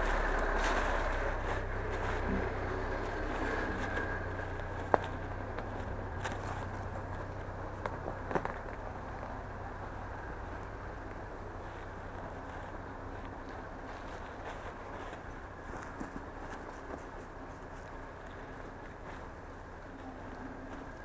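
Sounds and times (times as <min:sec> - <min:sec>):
off-road vehicle engine running: 0:00.0 - 0:21.0.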